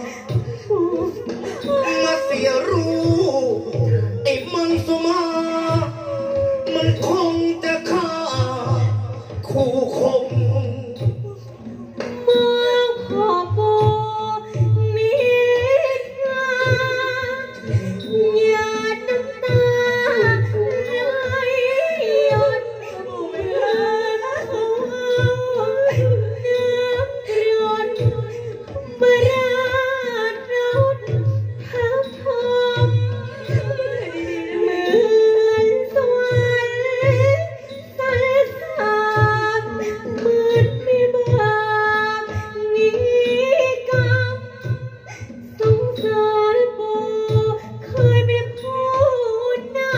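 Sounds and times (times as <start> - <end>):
band accompaniment: 0.0 - 49.9
person singing through microphone: 0.0 - 49.9.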